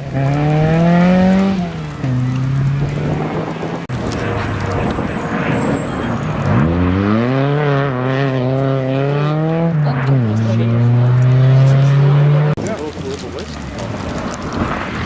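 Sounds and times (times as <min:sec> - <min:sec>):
gravel and tyre noise: 0:00.0 - 0:15.0
rally car engine revving: 0:00.0 - 0:15.0.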